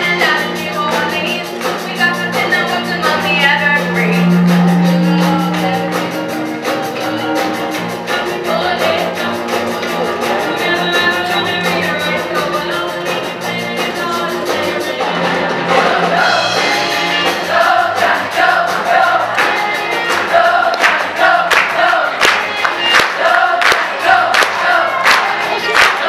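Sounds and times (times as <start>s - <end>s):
live rock and roll band: 0.0s - 26.0s
voices singing in chorus: 0.0s - 26.0s.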